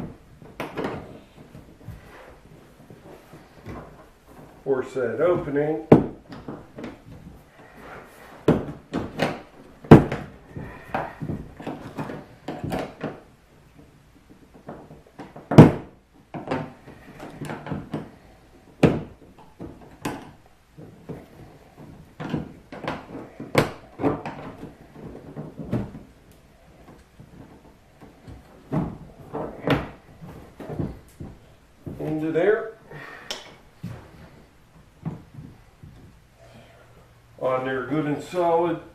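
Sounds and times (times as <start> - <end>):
plastic tube knocking and scraping: 0.0 - 4.6, 5.2 - 32.5.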